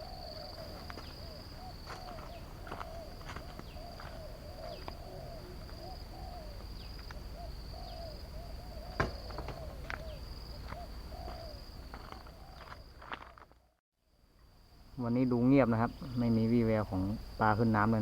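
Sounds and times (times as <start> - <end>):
high insect trill: 0.0 - 13.5, 14.1 - 18.0.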